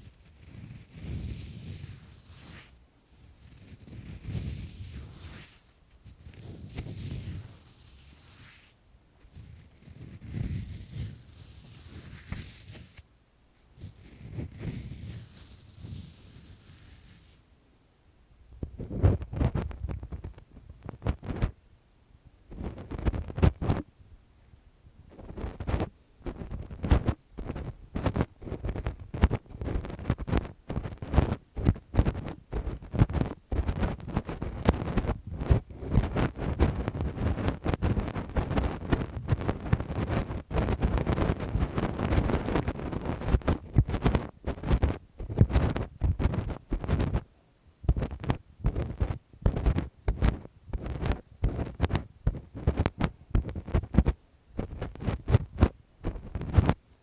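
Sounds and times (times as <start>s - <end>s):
fingers scratching on microphone: 0.0s - 13.0s, 13.6s - 17.5s, 18.6s - 21.6s, 22.5s - 23.8s, 25.1s - 47.3s, 47.9s - 56.8s.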